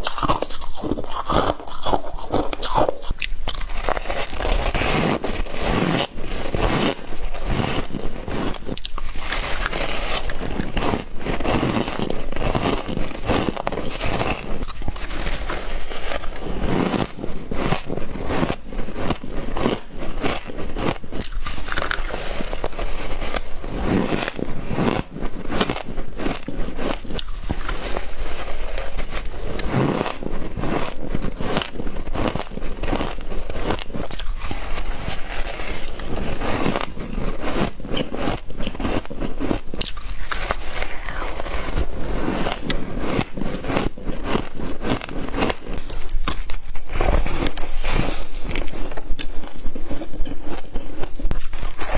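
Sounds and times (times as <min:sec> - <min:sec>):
frost being chewed: 0:00.0 - 0:51.9.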